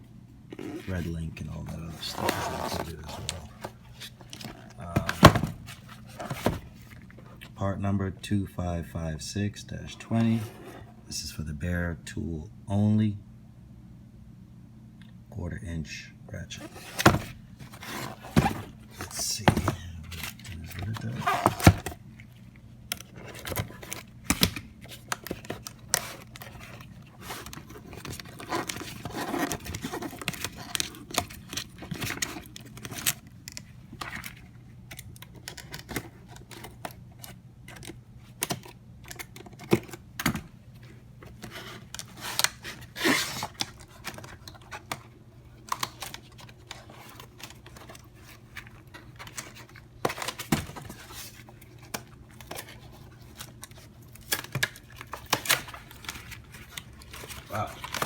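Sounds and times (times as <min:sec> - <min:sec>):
cardboard and plastic tearing: 0:00.6 - 0:07.4, 0:16.6 - 0:58.0.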